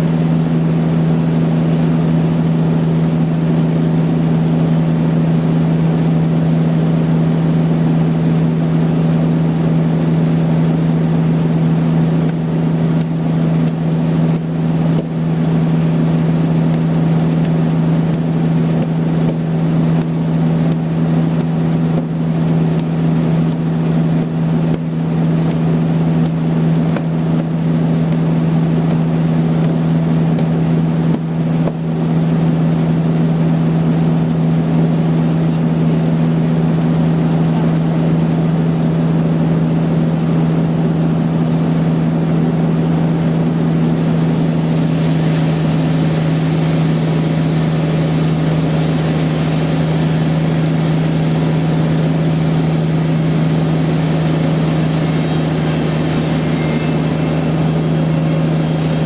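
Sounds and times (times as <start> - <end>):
sawmill machinery low drone: 0.0 - 59.0.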